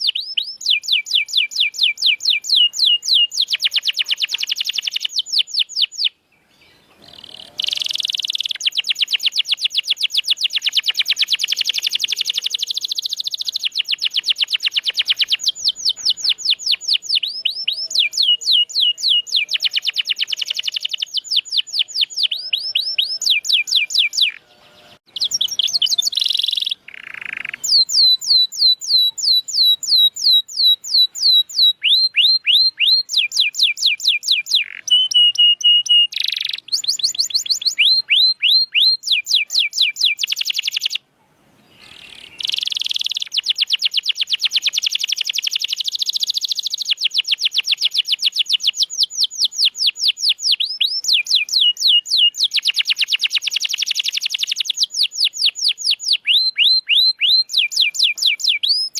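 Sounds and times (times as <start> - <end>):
canary singing trills: 0.0 - 41.0, 41.6 - 58.9.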